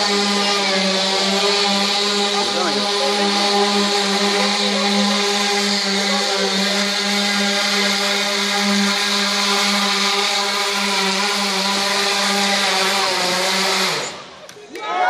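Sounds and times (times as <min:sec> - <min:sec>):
propellers humming with hiss: 0:00.0 - 0:14.5.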